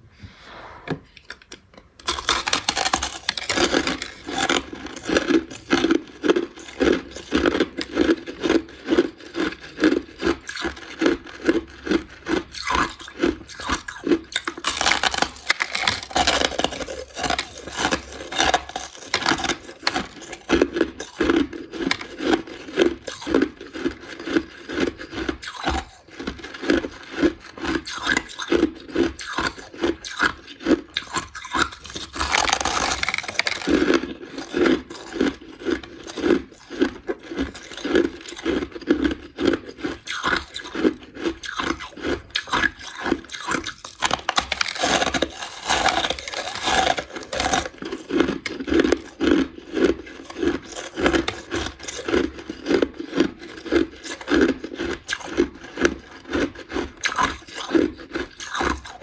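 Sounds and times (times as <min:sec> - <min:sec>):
crushed ice being chewed: 0:01.2 - 0:59.0.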